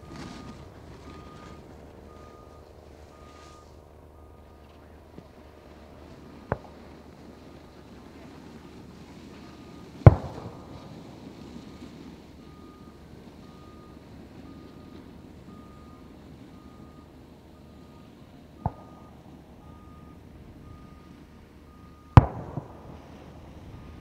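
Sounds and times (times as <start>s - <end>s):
firework bangs: 0.0s - 16.8s, 17.7s - 24.0s.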